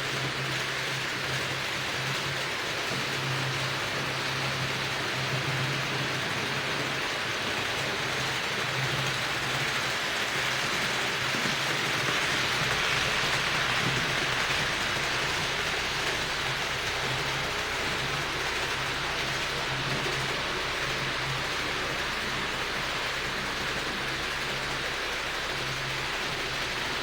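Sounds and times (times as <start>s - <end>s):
model train whirring on track: 0.0s - 27.0s.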